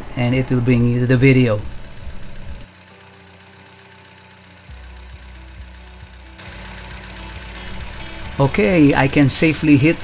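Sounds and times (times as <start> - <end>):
car engine idling: 0.0 - 10.0
radiator fan humming: 0.0 - 10.0.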